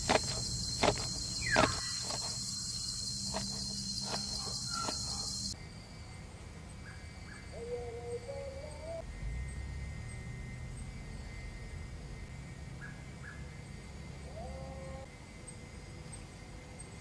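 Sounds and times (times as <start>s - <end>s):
crickets droning: 0.0s - 17.0s
night ambience: 0.0s - 17.0s.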